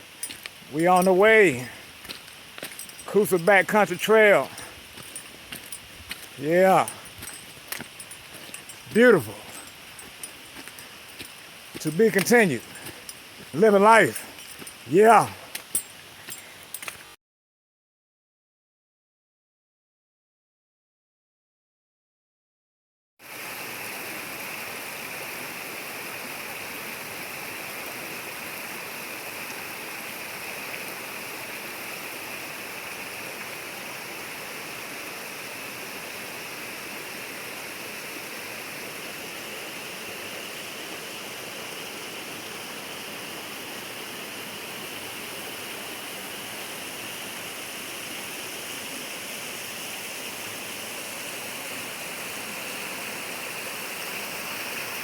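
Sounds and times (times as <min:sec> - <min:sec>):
stream flowing water: 0:00.0 - 0:17.1, 0:23.2 - 0:55.0.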